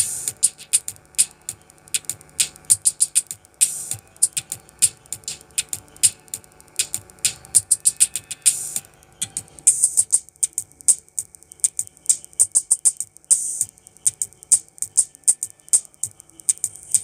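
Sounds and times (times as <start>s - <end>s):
crisp percussion ticks: 0.0s - 17.0s
music through small tweeter: 0.0s - 17.0s.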